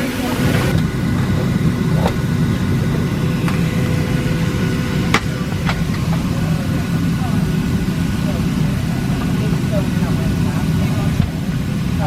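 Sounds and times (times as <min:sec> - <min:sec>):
air conditioning rumble and hum: 0:00.0 - 0:12.0
faint steady tones: 0:00.0 - 0:12.0.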